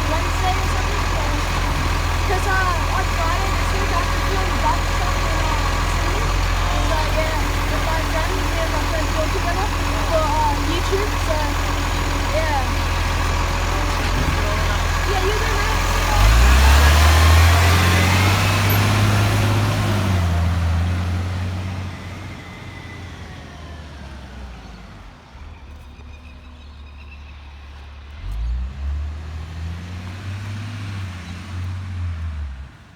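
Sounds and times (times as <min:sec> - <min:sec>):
garbage truck pulling away: 0:00.0 - 0:32.9
vehicle engine: 0:00.0 - 0:32.9.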